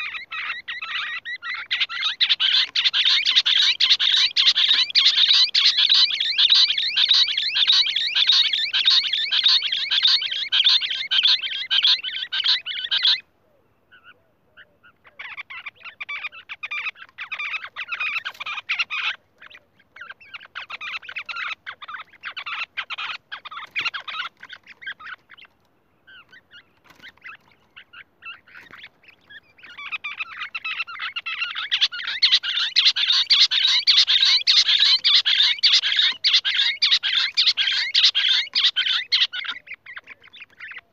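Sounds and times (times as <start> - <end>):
quail calling in harsh pulses: 0.0 - 40.9.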